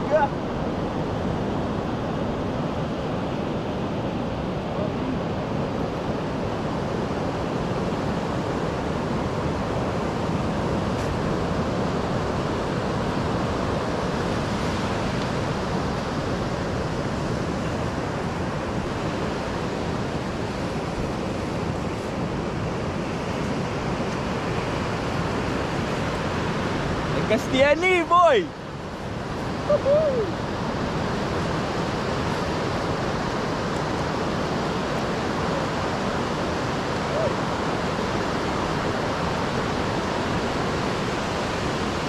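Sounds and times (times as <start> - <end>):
ocean surf: 0.0 - 42.0
wind: 0.0 - 42.0.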